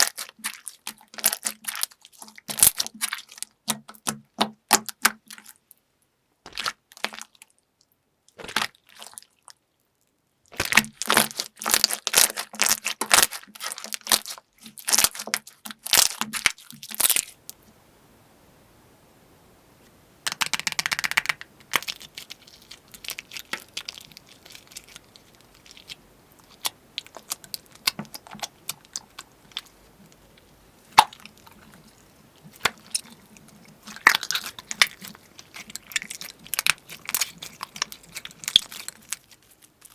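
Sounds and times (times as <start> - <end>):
crunchy slime crackling: 0.0 - 5.6, 6.5 - 7.5, 8.3 - 9.6, 10.5 - 17.5, 20.3 - 39.9.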